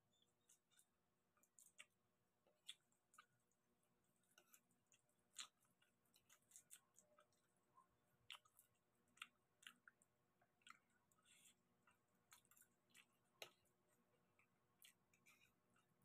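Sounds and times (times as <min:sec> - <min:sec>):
people chewing food: 0:00.0 - 0:16.0.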